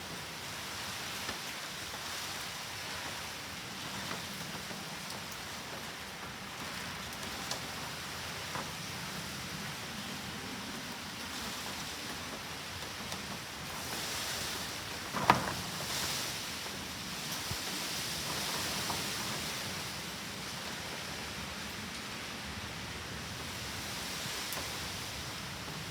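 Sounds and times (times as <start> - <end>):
heavy rain hiss: 0.0 - 25.9.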